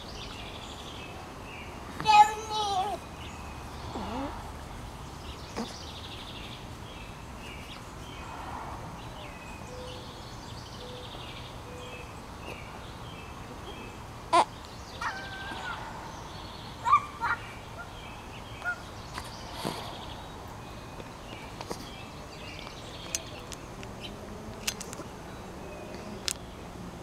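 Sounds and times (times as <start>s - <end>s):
birds calling: 0.0s - 26.7s
steady outdoor noise: 0.0s - 27.0s.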